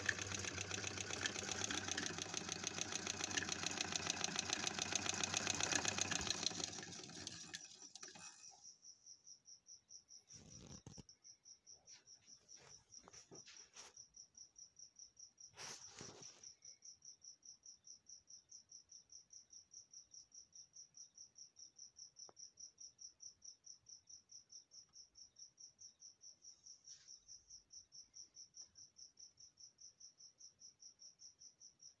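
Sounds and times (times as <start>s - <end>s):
cricket chirping: 0.1s - 32.0s.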